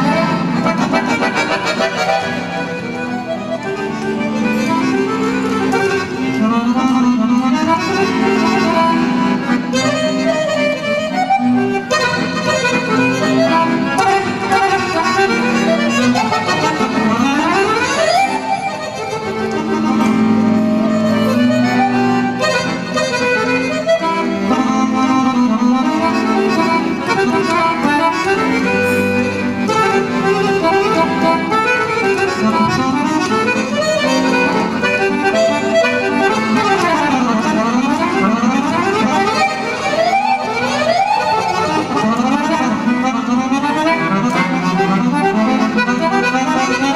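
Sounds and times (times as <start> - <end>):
piano accordion melody: 0.0 - 46.9.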